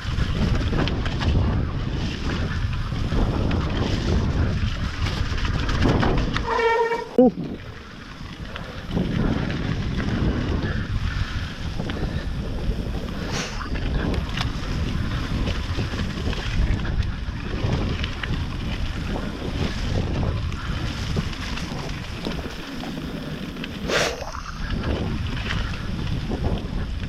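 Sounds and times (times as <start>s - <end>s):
mountain bike rumbling on trail: 0.0s - 27.0s
wind buffeting microphone: 0.0s - 27.0s.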